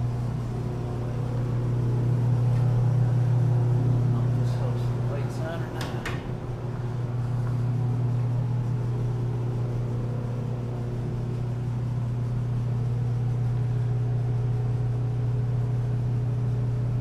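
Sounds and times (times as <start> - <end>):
machine low hum: 0.0 - 17.0.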